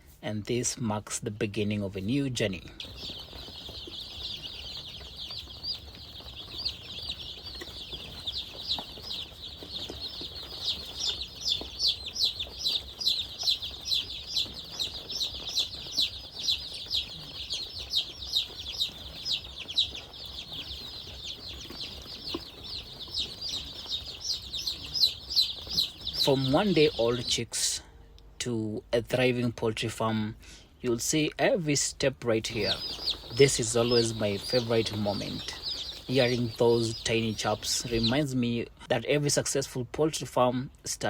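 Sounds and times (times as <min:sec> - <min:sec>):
chicks peeping: 0:01.5 - 0:41.0.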